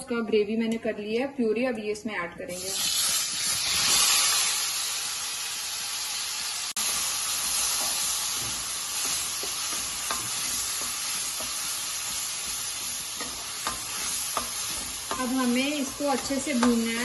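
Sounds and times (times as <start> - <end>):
puree sizzling in hot oil: 2.5 - 17.0.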